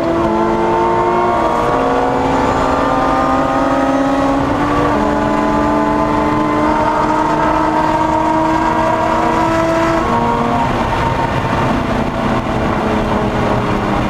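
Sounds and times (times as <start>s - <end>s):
car engine at high revs: 0.0s - 14.0s
wind and tyre noise: 0.0s - 14.0s.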